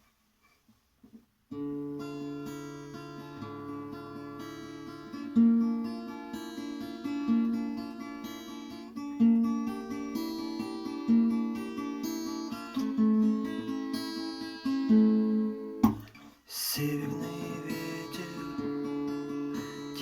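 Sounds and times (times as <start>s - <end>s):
acoustic guitar playing: 1.5s - 20.0s.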